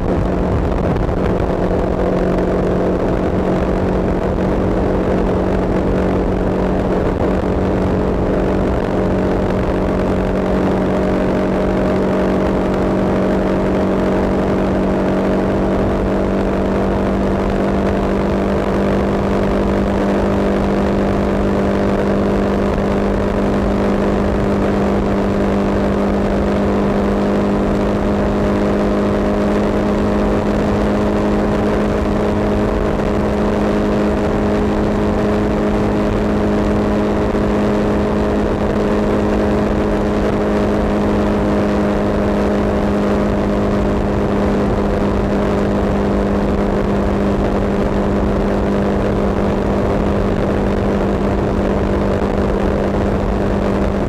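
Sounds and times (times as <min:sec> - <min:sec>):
tyre road roar: 0:00.0 - 0:54.0
vehicle engine humming: 0:00.0 - 0:54.0.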